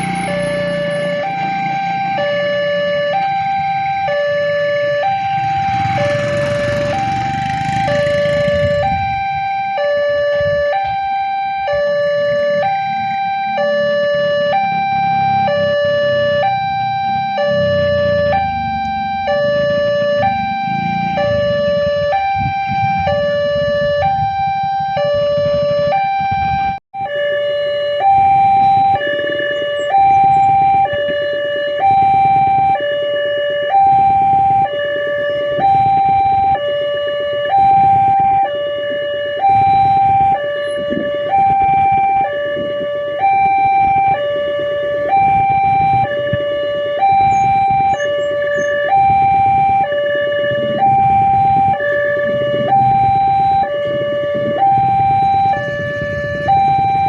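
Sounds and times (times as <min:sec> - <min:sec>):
level crossing alarm tones: 0:00.0 - 0:57.0.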